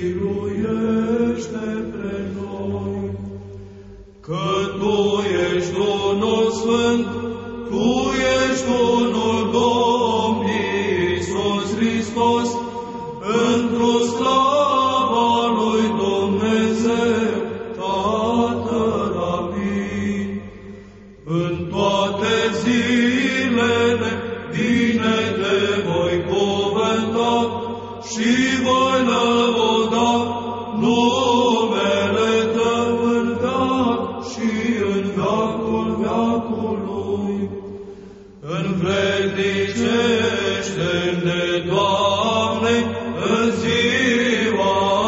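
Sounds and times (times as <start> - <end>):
low held vocal drone: 0.0 - 45.0
melismatic chant singing: 0.0 - 45.0.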